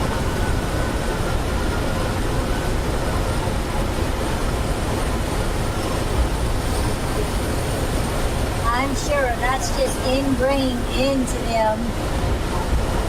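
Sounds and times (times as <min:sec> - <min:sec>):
airflow rushing past cockpit: 0:00.0 - 0:13.0.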